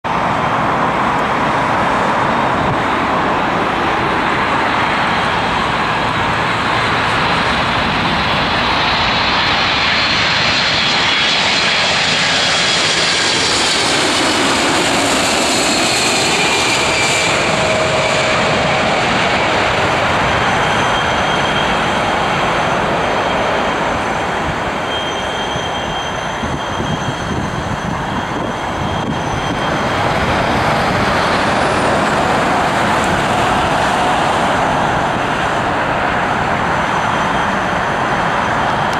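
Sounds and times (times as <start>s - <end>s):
high jet whine: 0.0s - 38.9s
jet engines roaring: 0.0s - 38.9s.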